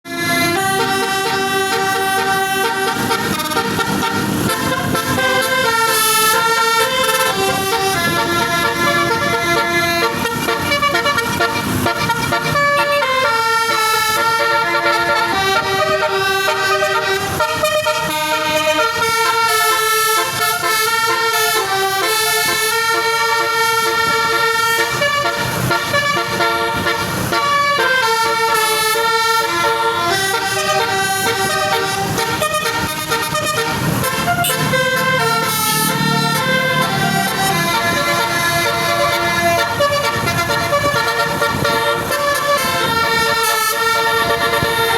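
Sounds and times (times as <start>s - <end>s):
multi-tone bus air horn tune: 0.0s - 44.9s.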